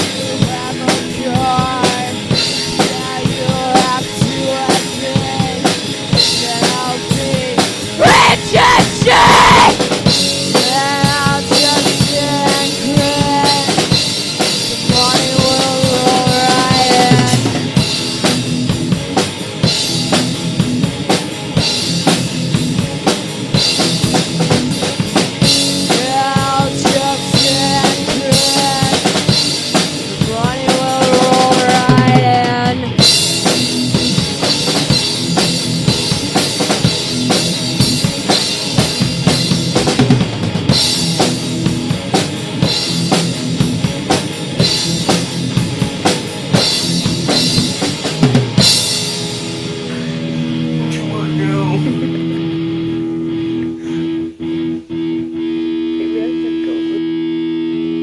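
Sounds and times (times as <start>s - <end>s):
drum kit pounding: 0.0s - 56.0s
fuzzy electric guitar: 0.0s - 58.0s.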